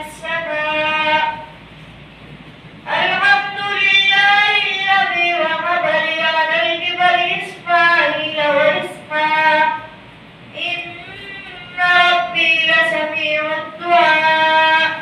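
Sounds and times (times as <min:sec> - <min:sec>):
boy chanting into microphone: 0:00.0 - 0:01.6, 0:02.8 - 0:15.0.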